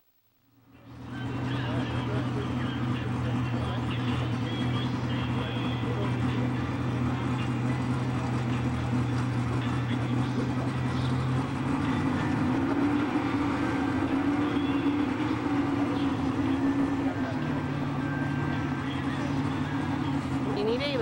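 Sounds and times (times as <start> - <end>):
race car engines droning: 0.8 - 21.0.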